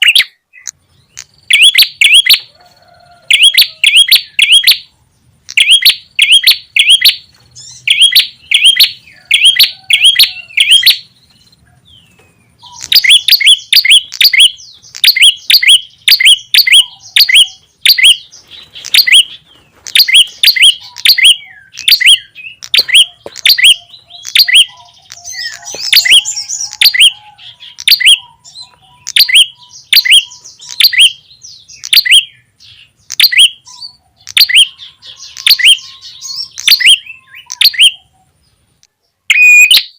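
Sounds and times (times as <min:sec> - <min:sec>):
bird chirping sharply: 0:00.0 - 0:02.5, 0:03.3 - 0:04.9, 0:05.5 - 0:38.1, 0:39.2 - 0:39.9.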